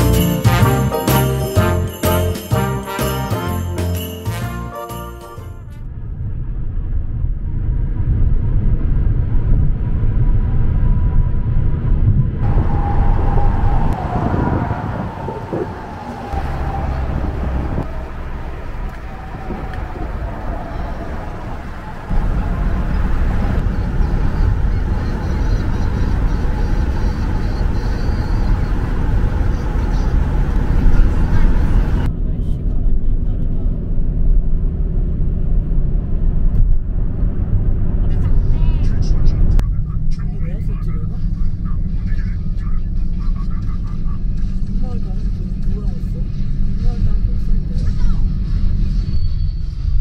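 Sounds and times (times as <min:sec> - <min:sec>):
road and wind noise in car: 0:05.7 - 0:50.0.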